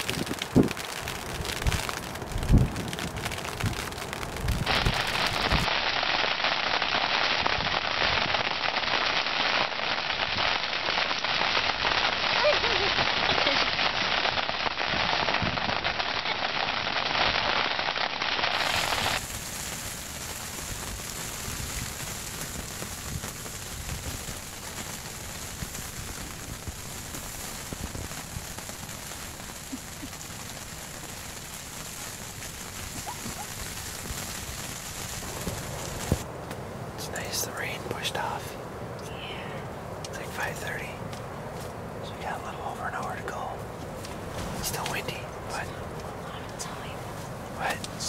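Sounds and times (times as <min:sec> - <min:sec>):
rain pattering on fabric roof: 0:00.0 - 0:38.4, 0:40.0 - 0:48.0.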